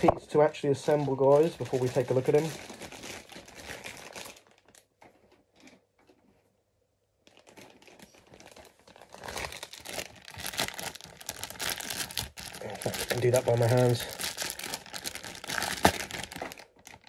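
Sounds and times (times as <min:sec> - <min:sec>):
plastic wrapping crinkling: 0:00.0 - 0:06.4, 0:07.2 - 0:17.0.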